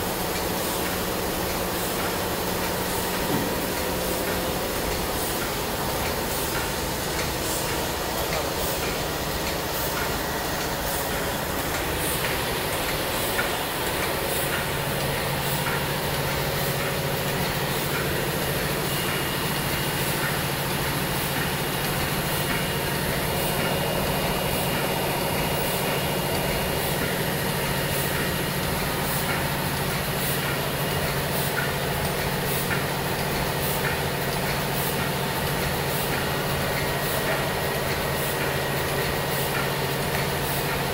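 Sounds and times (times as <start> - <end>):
machine humming: 0.0 - 40.9.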